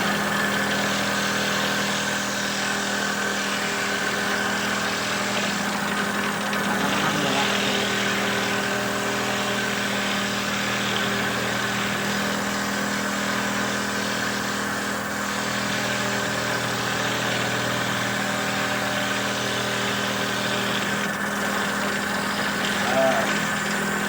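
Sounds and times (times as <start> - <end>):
machine motor humming: 0.0 - 24.0.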